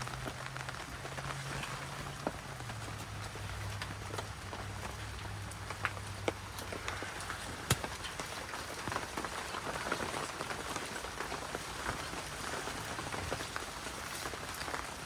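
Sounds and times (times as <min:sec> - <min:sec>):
rain on umbrella and foliage: 0:00.0 - 0:15.0.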